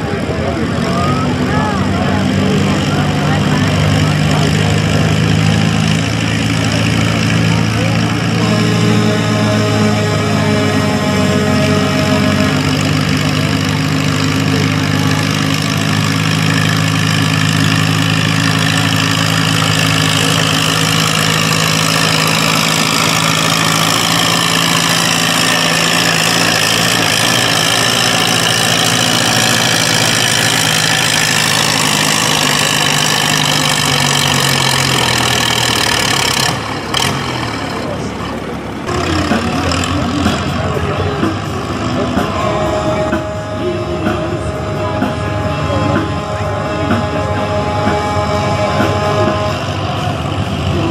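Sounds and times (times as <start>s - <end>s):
tractor engine running hard: 0.0s - 50.9s.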